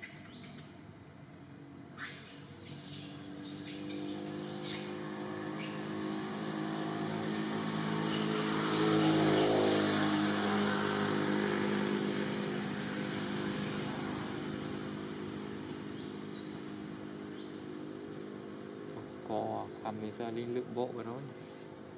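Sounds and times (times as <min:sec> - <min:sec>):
vehicle engine passing by: 0:02.0 - 0:21.9.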